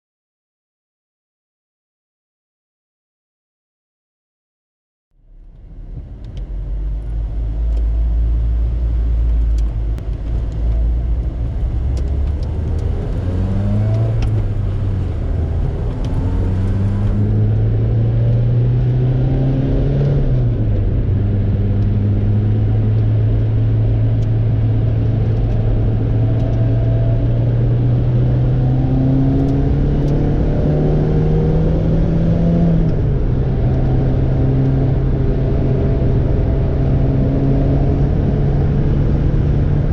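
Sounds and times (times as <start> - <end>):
sports car engine accelerating: 5.2 - 39.9.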